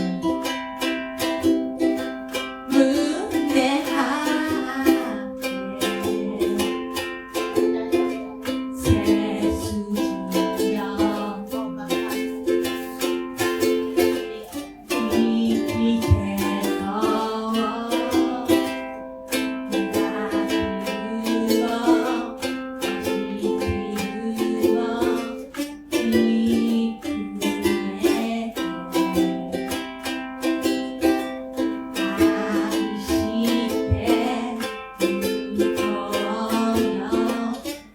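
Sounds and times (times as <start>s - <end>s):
ukulele strumming: 0.0s - 37.9s.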